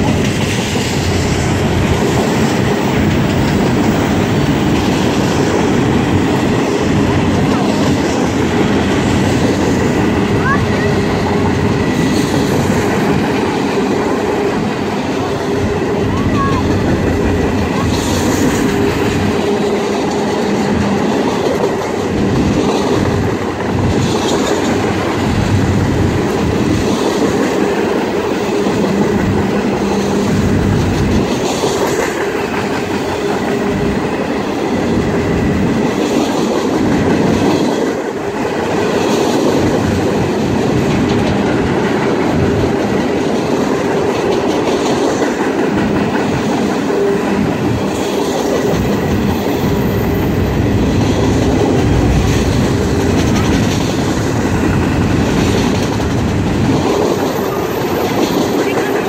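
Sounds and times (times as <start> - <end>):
train wheels clacking over rail joints: 0.0 - 59.0.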